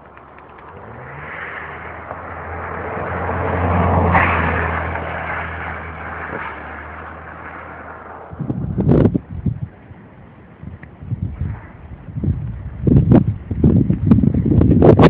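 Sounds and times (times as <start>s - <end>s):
car engine and tyres passing: 0.0s - 14.7s.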